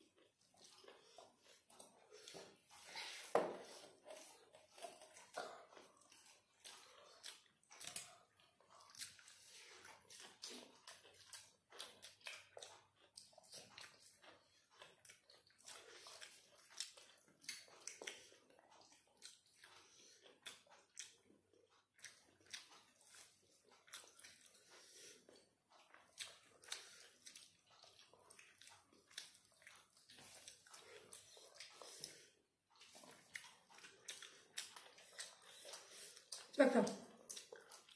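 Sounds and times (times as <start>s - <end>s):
chewing and lip-smacking: 0.0s - 37.9s.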